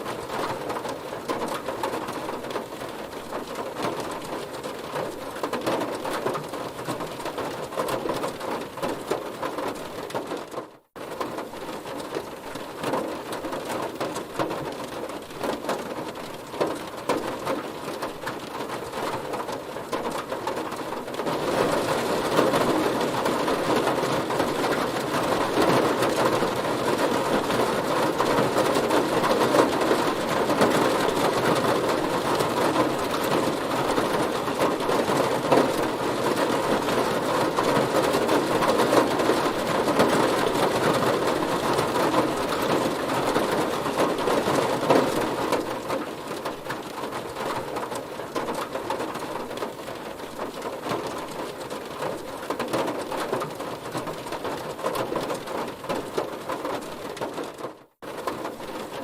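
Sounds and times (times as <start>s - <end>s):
heavy rain drumming on car: 0.0s - 59.0s.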